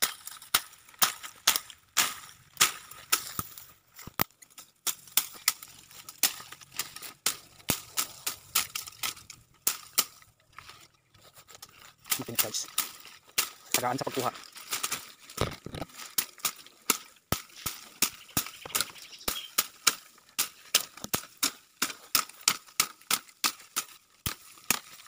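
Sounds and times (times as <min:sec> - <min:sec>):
twigs snapping and cracking: 0:00.0 - 0:25.0.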